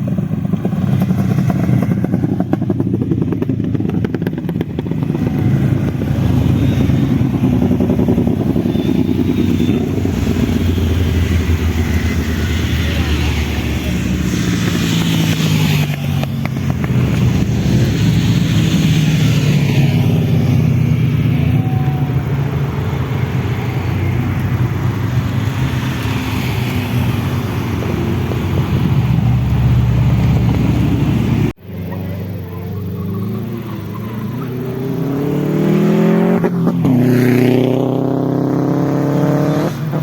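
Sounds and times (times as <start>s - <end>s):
motorcycle engines running: 0.0s - 40.0s.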